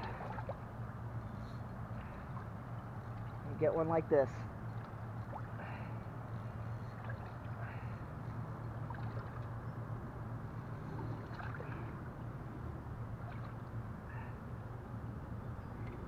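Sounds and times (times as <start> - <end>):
low hum: 0.0 - 16.0
water noise around boat: 0.0 - 16.0.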